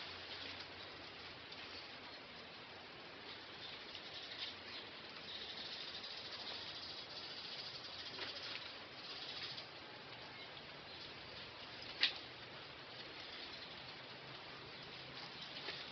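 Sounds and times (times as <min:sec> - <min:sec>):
lizards rustling and scratching: 0:00.0 - 0:15.9
steady hiss: 0:00.0 - 0:15.9.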